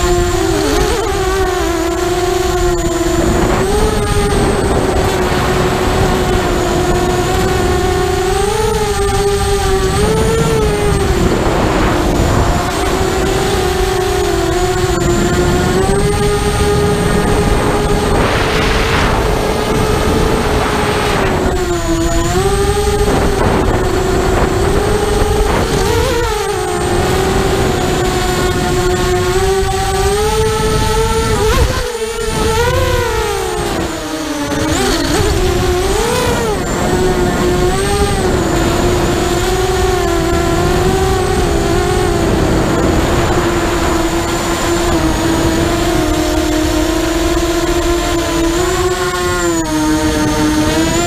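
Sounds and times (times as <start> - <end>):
quadcopter motors whining: 0.0 - 51.0
wind on microphone: 0.0 - 51.0.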